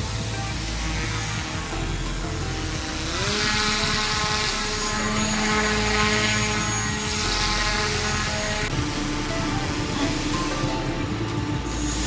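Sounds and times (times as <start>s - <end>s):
electric propeller motor whine: 0.0s - 12.0s.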